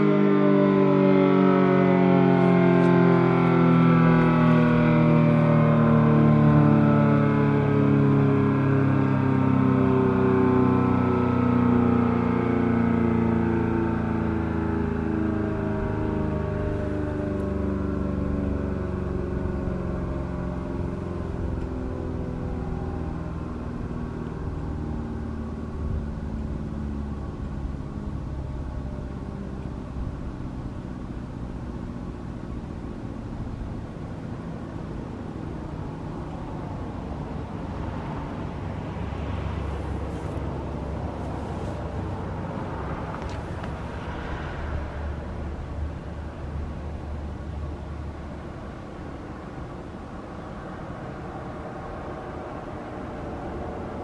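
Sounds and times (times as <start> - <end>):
siren winding down: 0.0 - 48.4
low outdoor rumble: 0.0 - 54.0
vehicle passing: 0.0 - 54.0.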